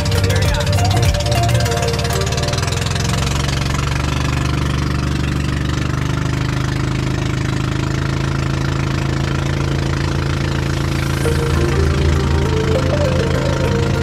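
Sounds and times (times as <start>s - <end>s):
small boat engine puttering: 0.0s - 14.0s.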